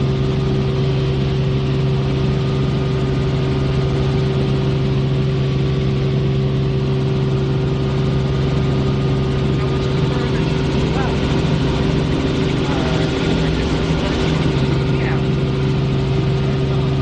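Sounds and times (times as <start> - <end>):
helicopter in flight: 0.0 - 17.0.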